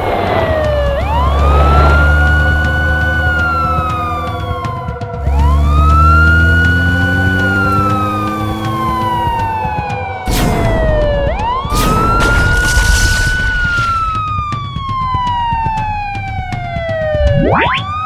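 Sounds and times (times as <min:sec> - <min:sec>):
cartoon police siren wailing: 0:00.1 - 0:18.0.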